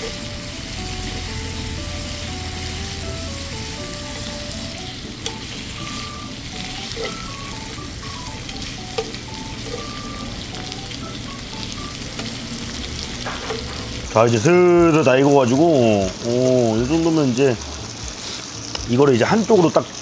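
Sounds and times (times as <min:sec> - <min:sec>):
light background melody: 0:00.0 - 0:19.2
meat sizzling on a griddle: 0:00.0 - 0:20.0.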